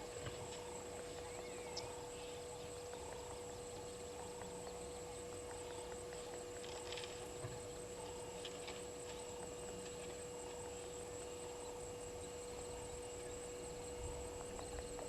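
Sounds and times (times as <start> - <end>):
steady high whine: 0.0 - 15.0
steady low hum: 0.0 - 15.0.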